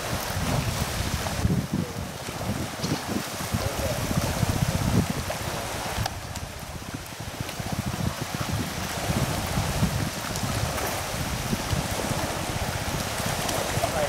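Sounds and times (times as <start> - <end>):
floodwater rushing and lapping: 0.0 - 14.0.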